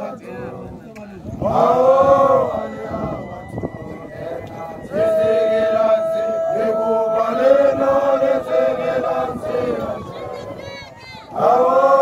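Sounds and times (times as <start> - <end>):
men chanting a slow song: 0.0 - 10.7, 11.3 - 12.0.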